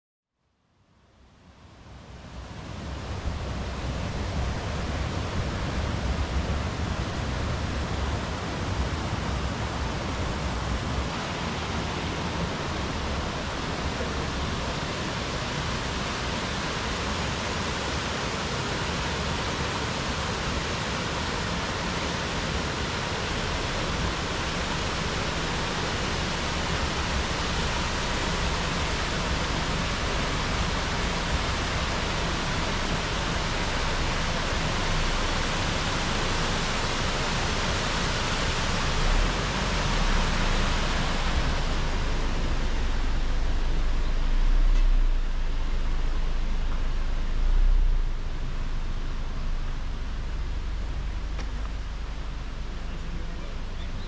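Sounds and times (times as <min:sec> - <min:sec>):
rushing mountain stream: 0:01.9 - 0:54.0.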